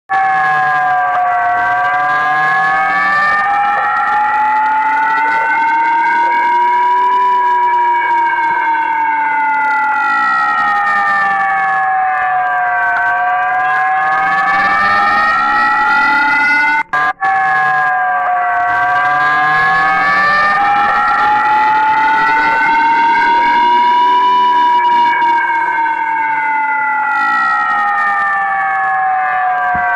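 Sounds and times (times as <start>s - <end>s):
alarm siren wailing: 0.1s - 29.9s.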